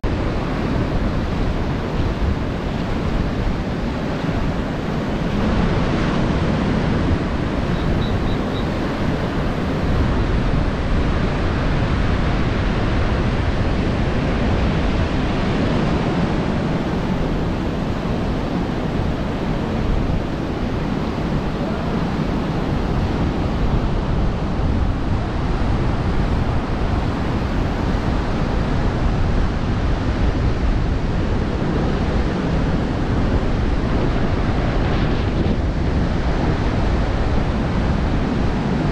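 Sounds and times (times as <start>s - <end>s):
surf washing onto beach: 0.0s - 38.9s
wind noise on microphone: 0.0s - 38.9s.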